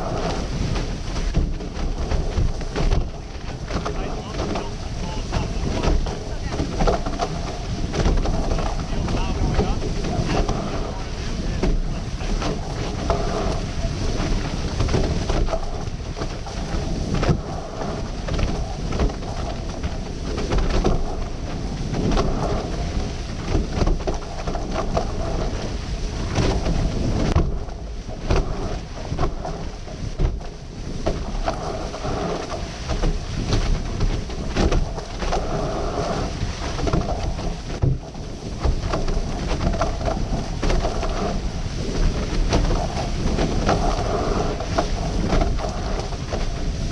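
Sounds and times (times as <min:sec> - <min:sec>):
water rushing past hulls: 0:00.0 - 0:46.9
wind buffeting microphone: 0:00.0 - 0:46.9.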